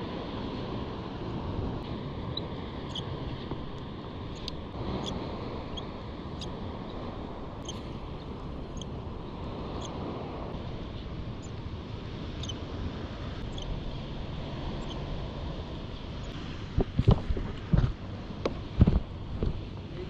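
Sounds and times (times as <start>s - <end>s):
water noise at sea: 0.0s - 20.0s
wind: 0.0s - 20.0s.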